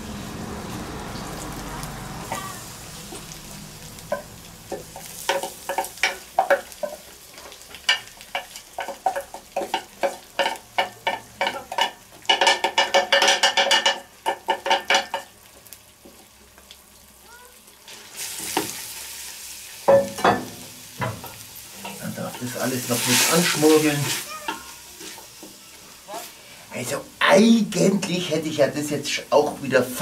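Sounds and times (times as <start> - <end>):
vegetables sizzling: 0.0 - 30.0.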